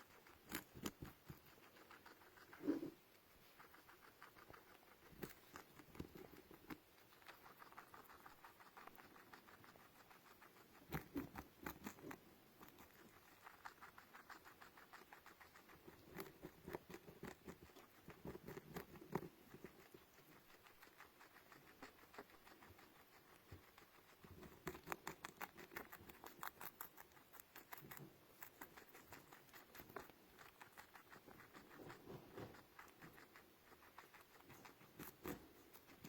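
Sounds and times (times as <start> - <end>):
small pet pattering and clicking: 0.0 - 36.0.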